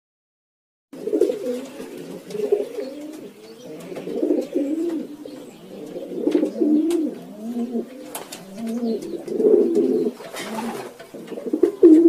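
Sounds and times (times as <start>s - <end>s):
doves cooing: 1.0s - 12.0s.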